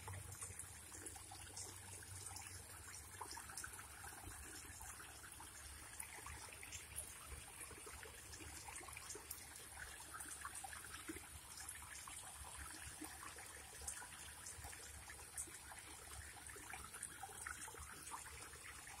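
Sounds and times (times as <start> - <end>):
small water drips: 0.0 - 19.0
water trickling: 0.0 - 19.0.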